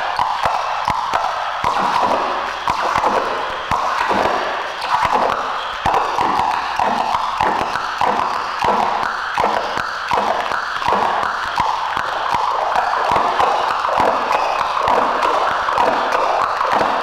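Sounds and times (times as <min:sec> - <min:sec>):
electronic noise music: 0:00.0 - 0:17.0.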